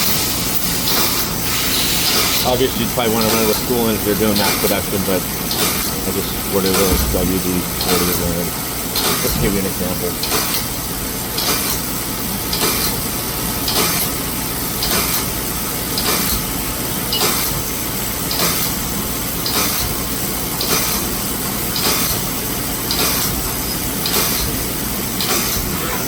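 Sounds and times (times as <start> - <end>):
machine running noise: 0.0 - 26.0.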